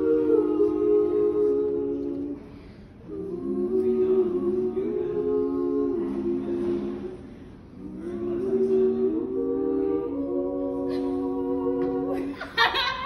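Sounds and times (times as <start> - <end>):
a cappella group singing harmony: 0.0 - 13.0.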